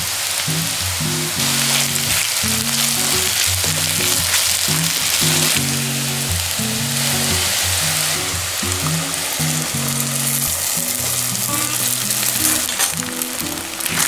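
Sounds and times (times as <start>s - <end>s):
food sizzling in a pan: 0.0s - 14.0s
background music with bass line: 0.5s - 12.7s.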